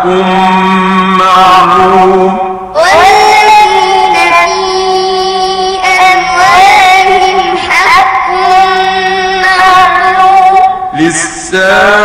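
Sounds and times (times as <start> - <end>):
person reciting melodically: 0.0 - 12.0.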